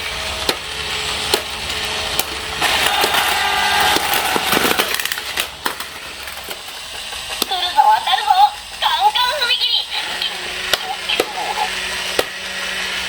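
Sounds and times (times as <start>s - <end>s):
toy train plastic clicks: 1.3s - 9.4s, 10.2s - 12.5s.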